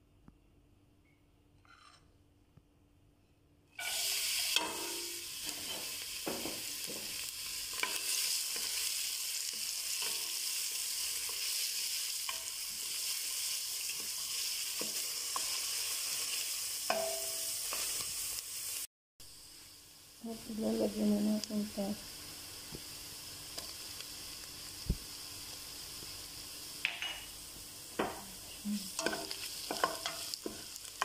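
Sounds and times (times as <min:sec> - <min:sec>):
onion sizzling in oil: 0:03.7 - 0:31.0.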